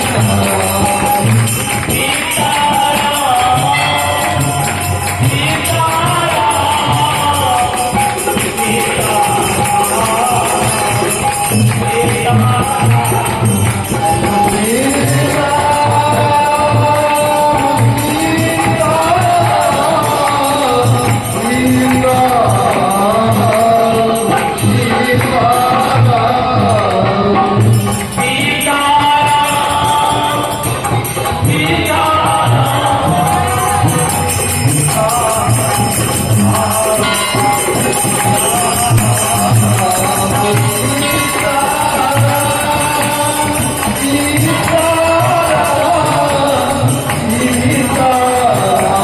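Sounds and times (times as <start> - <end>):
harmonium melody: 0.0 - 49.0
jingling percussion: 0.0 - 49.0.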